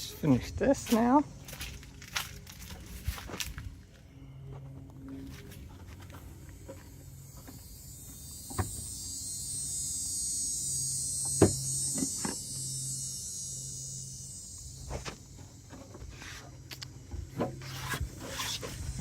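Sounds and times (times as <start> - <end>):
high-pitched buzzing hiss: 0.0 - 19.0.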